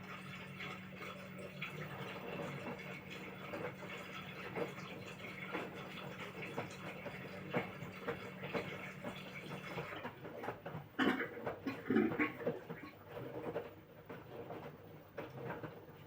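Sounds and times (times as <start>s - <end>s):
laundry sloshing in washing machine: 0.0s - 16.0s.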